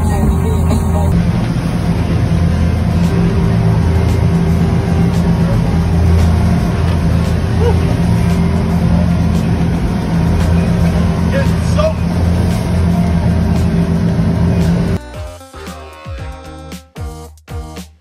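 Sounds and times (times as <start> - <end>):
boat engine humming: 0.0 - 16.8.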